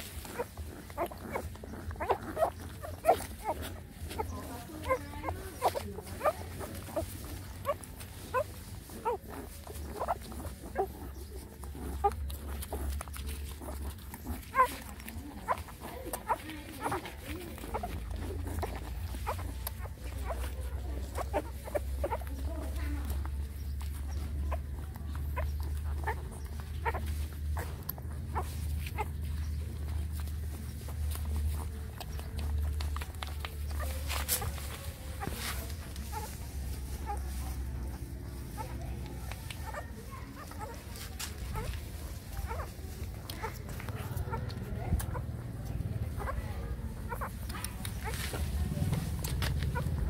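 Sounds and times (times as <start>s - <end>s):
puppies squeaking and whimpering: 0.0s - 50.0s.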